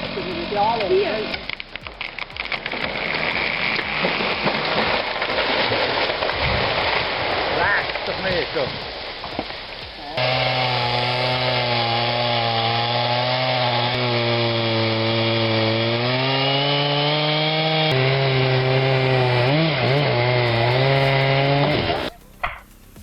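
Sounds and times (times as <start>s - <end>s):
chainsaw cutting log: 0.0s - 23.0s.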